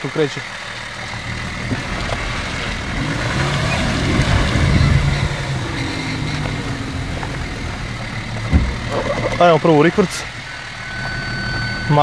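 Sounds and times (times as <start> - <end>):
car engine moving off: 0.0 - 12.0.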